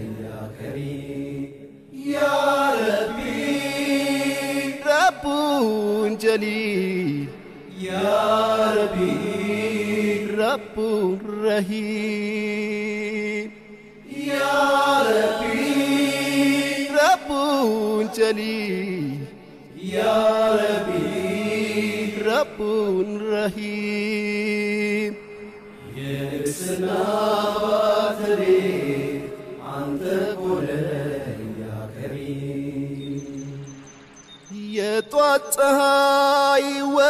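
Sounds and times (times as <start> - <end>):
wordless vocal chanting: 0.0 - 37.0.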